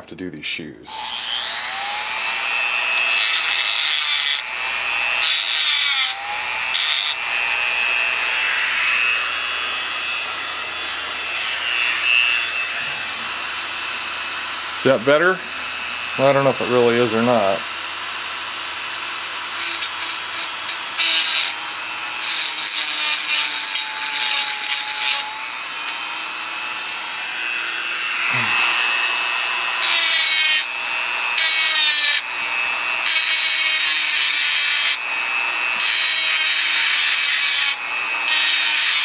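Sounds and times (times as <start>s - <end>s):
rotary tool grinding metal: 0.9s - 39.0s.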